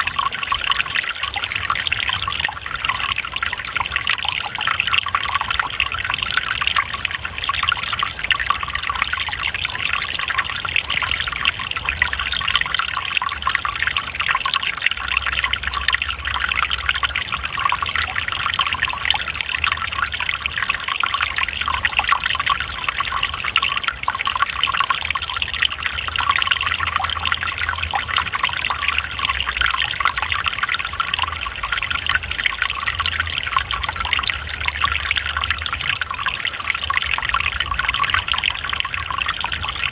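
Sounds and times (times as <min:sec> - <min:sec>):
stream water trickling and splashing: 0:00.0 - 0:39.9.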